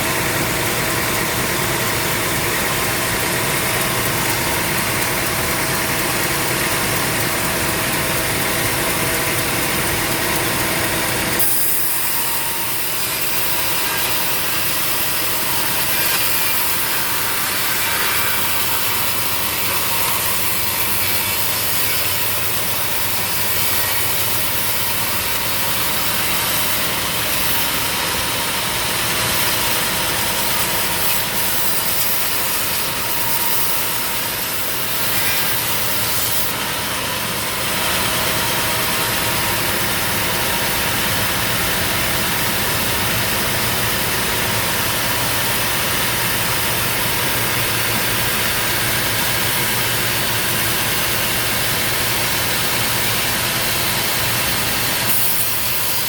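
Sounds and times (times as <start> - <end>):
saw blade cutting log: 0.0 - 56.0.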